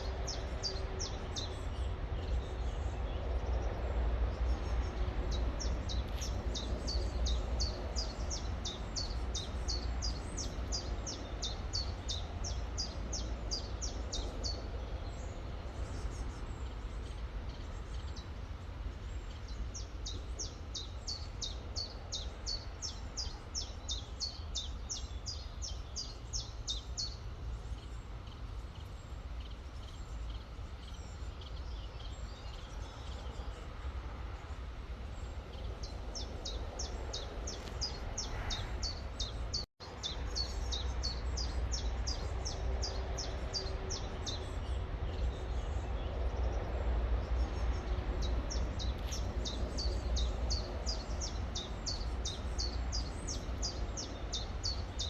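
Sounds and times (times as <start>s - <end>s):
songbirds trilling: 0.0s - 55.0s.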